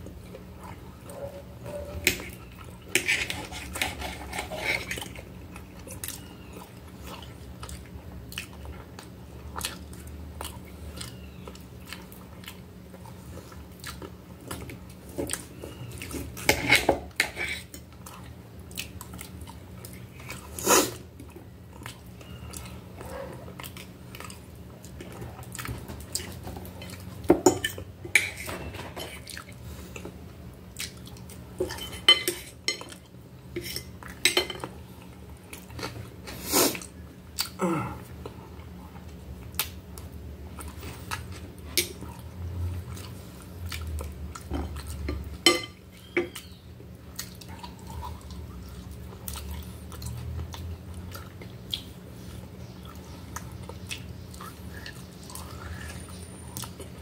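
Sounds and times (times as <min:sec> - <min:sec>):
chewing: 0:00.0 - 0:28.4, 0:29.1 - 0:32.1, 0:32.7 - 0:57.0.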